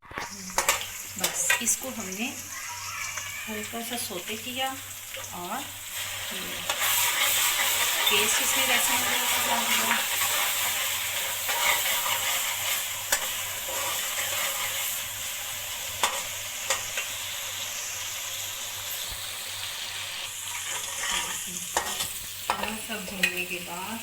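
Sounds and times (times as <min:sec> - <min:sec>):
frying in hot oil sizzle: 0:00.0 - 0:24.0.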